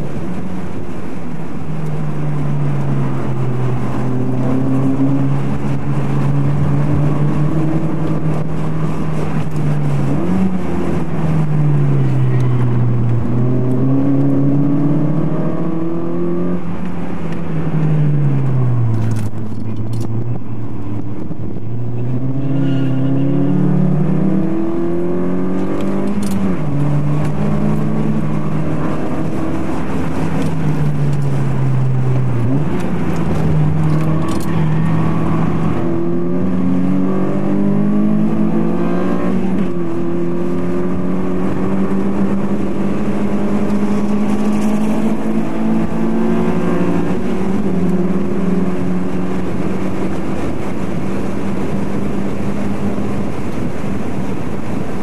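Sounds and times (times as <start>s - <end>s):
turbocharged car engine revving: 0.0s - 55.0s.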